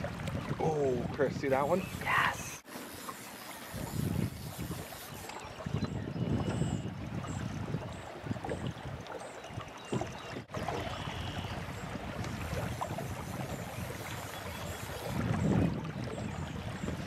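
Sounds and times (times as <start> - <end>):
wind rumbling on microphone: 0.0 - 2.6, 3.6 - 17.0
river water flowing: 0.0 - 17.0.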